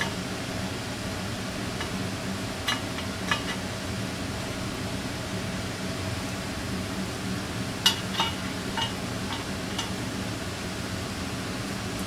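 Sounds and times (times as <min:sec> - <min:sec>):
low hum of workshop: 0:00.0 - 0:12.0.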